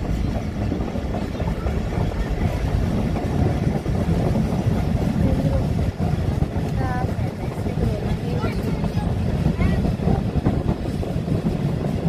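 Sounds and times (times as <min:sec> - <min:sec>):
train rumble and rattle: 0:00.0 - 0:12.0
wind buffeting microphone: 0:00.0 - 0:12.0.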